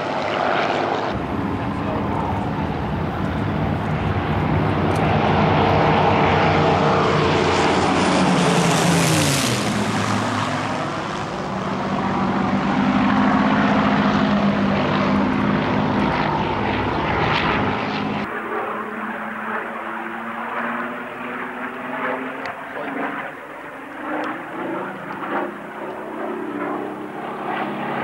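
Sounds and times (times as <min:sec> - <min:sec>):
propeller planes flying past: 0:00.0 - 0:28.0.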